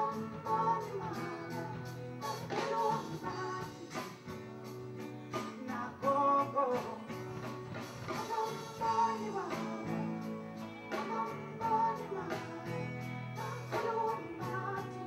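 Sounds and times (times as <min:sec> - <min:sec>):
guitar: 0:00.0 - 0:15.0
person singing: 0:00.0 - 0:15.0.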